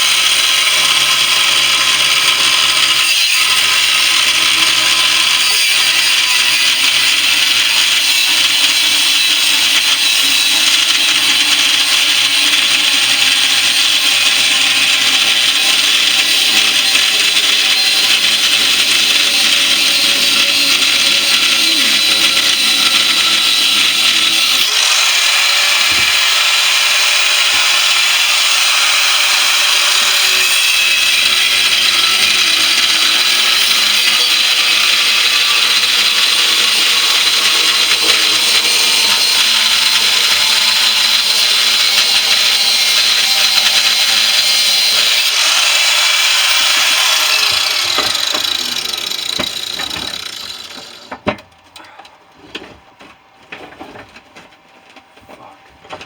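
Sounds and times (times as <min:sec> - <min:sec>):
power tool cutting steel: 0:00.0 - 0:51.2.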